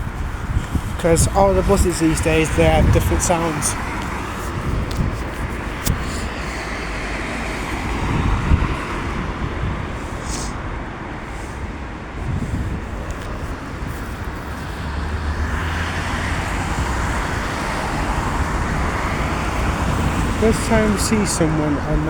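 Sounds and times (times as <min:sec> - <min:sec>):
heavy vehicle engine drone: 0:00.0 - 0:22.0
passing vehicles engine rumble: 0:00.0 - 0:22.0.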